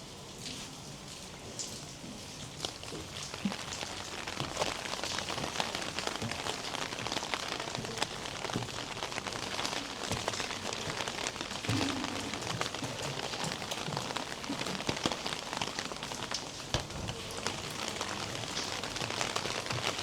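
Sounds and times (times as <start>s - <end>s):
rain on hard surfaces: 0.0s - 20.0s.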